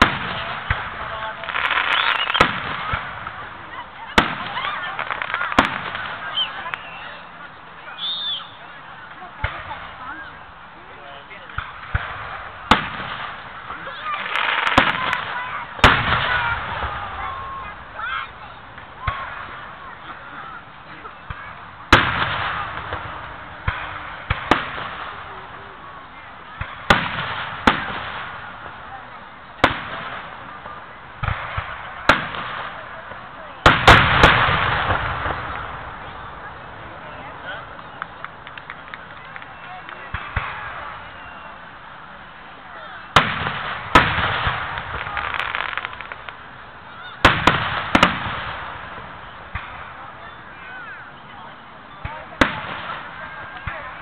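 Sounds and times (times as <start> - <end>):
fireworks crackling pops: 0.0 - 54.0
fireworks sharp bangs: 0.0 - 54.0.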